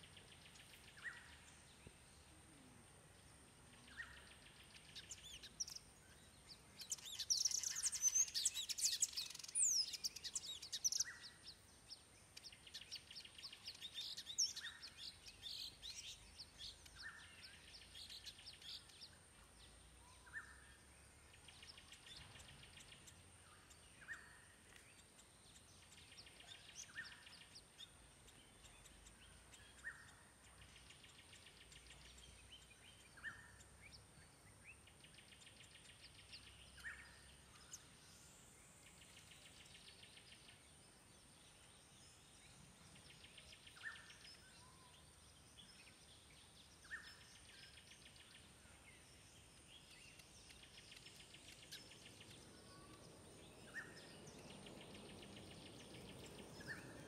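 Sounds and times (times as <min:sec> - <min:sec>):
small birds trilling and chirping: 0:00.0 - 0:57.0.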